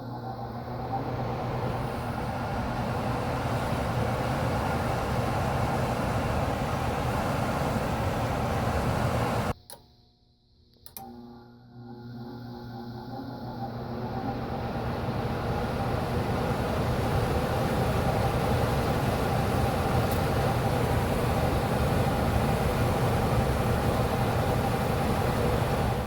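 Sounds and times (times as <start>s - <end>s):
furnace blower fan running: 0.0s - 9.6s, 10.9s - 26.0s.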